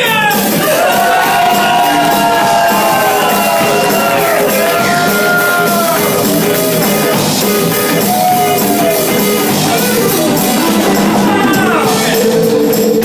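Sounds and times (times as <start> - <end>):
rock song with band: 0.0 - 13.0.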